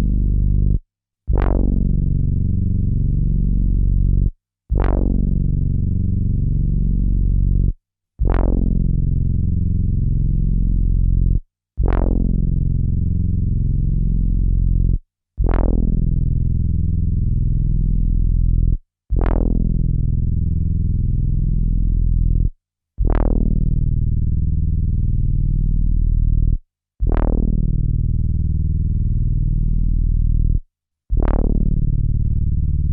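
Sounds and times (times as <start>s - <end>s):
low synthesizer bass note: 0.0s - 32.9s.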